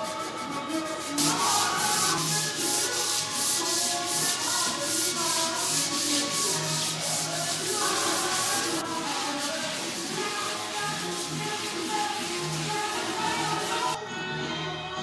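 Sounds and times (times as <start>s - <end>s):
sanding block on wood: 0.0s - 14.0s
faint background music: 0.0s - 15.0s.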